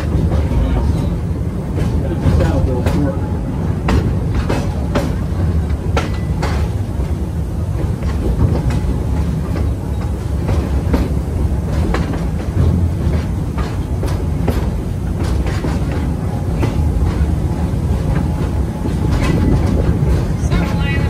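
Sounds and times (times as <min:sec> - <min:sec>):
train rumbling: 0:00.0 - 0:21.0
wheels clacking on track: 0:00.0 - 0:21.0.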